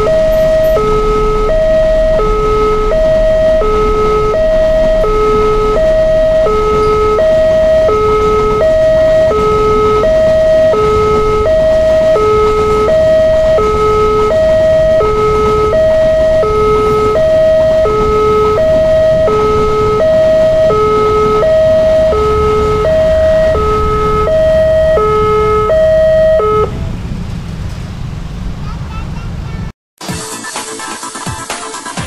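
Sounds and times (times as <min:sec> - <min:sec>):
two-tone crossing alarm: 0:00.0 - 0:26.8
low rumble: 0:00.0 - 0:29.5.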